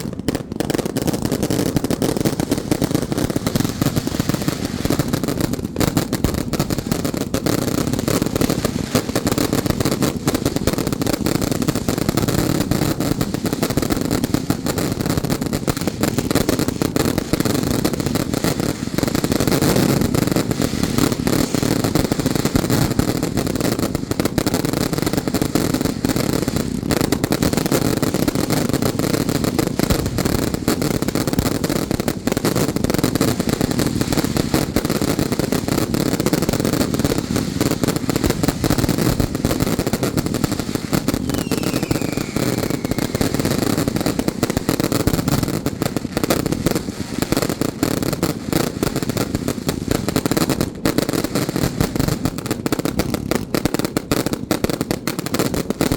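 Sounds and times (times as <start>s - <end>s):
firecrackers crackling and popping: 0.0s - 55.9s.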